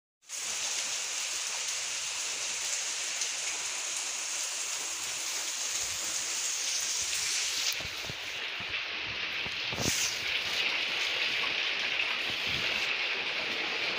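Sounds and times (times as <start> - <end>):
heavy rain falling: 0.3 - 13.9.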